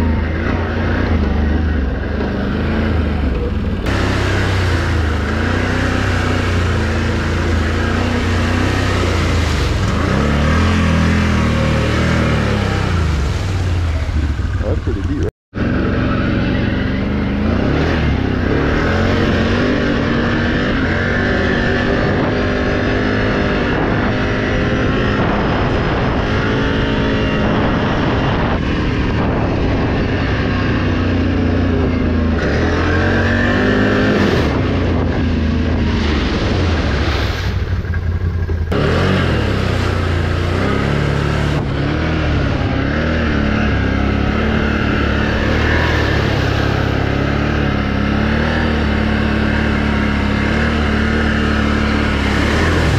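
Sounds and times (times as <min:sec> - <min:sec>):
engine revving on the move: 0:00.0 - 0:52.9.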